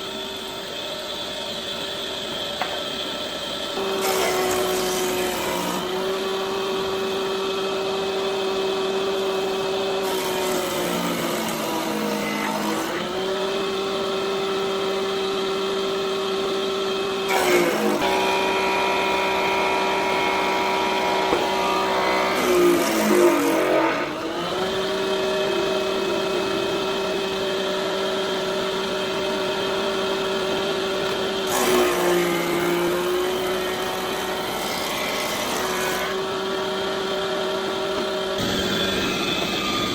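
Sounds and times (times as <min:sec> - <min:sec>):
power tool motor cutting wood: 0:03.5 - 0:39.9.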